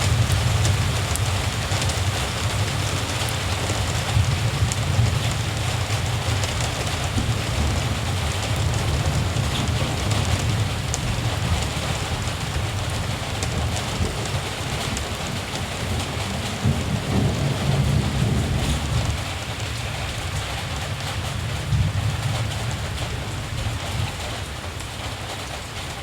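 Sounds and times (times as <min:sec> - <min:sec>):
distant thunder rumbling: 0:00.0 - 0:26.0
steady rain falling: 0:00.0 - 0:26.0.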